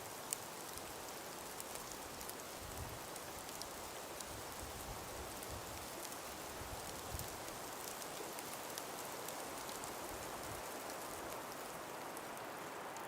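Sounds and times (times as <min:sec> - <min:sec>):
breeze through icy forest: 0:00.0 - 0:13.0
small scattered ticks: 0:00.0 - 0:13.0.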